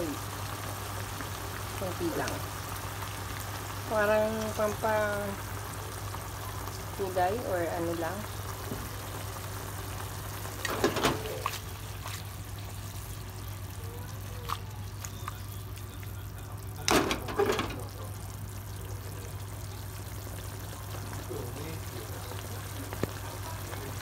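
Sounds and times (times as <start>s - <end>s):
broth simmering in a pan: 0.0s - 24.0s.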